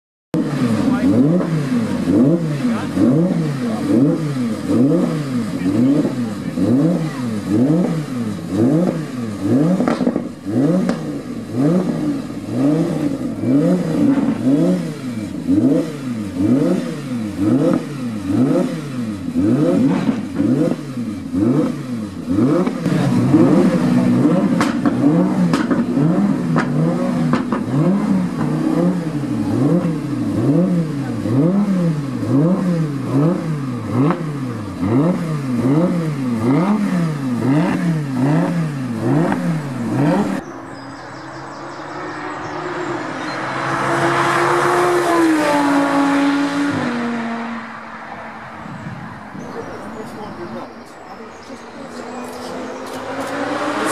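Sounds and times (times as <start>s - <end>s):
car engine revving: 0.3s - 53.9s
steady low engine note: 0.4s - 43.7s.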